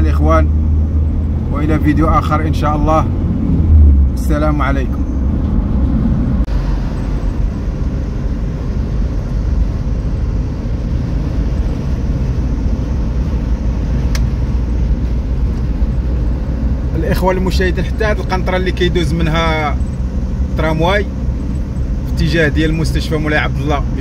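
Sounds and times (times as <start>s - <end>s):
car driving rumble inside cabin: 0.0s - 24.0s.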